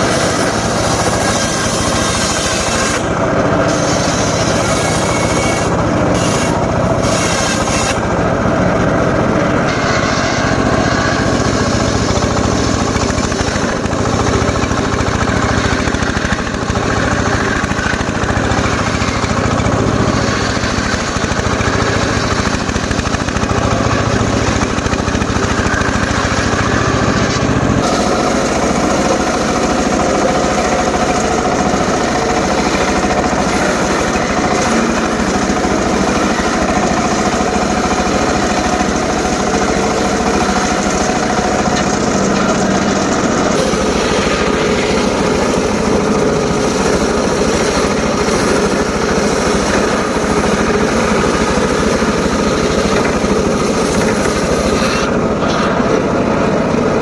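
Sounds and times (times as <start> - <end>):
circular saw cutting logs: 0.0 - 57.0.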